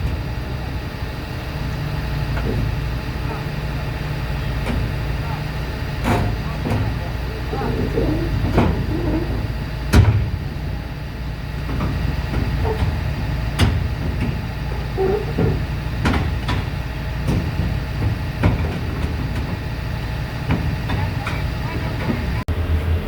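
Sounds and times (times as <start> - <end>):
diesel engine rumbling: 0.0 - 23.0
sharp metallic knocks: 2.2 - 22.4.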